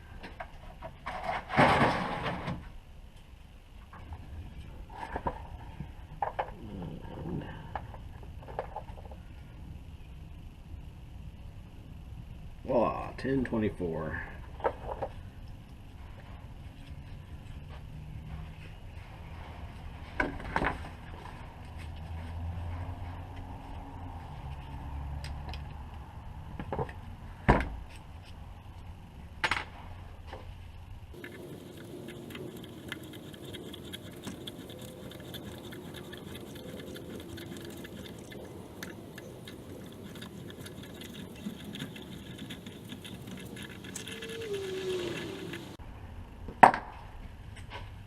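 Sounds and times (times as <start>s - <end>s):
faint steady hum: 0.0s - 47.6s.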